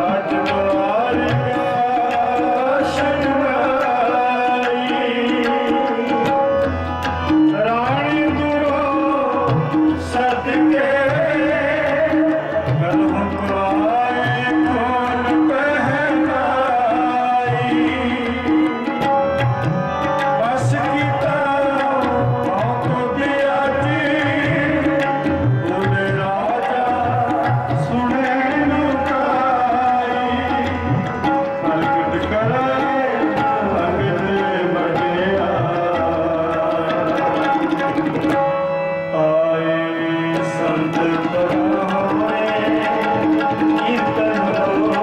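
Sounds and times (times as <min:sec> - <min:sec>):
harmonium drone: 0:00.0 - 0:45.0
tabla playing: 0:00.0 - 0:45.0.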